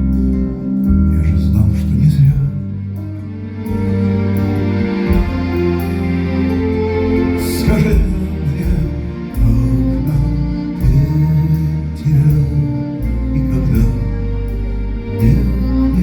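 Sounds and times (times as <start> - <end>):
live band playing slow song: 0.0 - 16.0.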